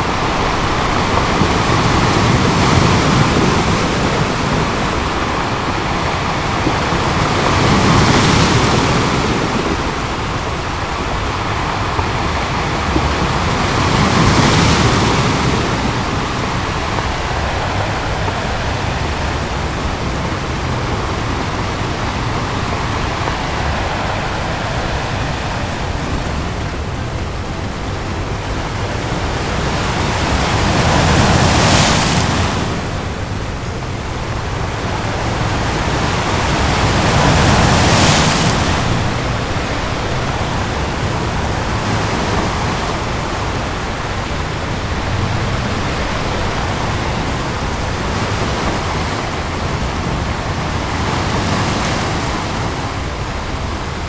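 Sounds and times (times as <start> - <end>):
big waves crashing: 0.0 - 54.0
ocean waves breaking: 0.0 - 54.0.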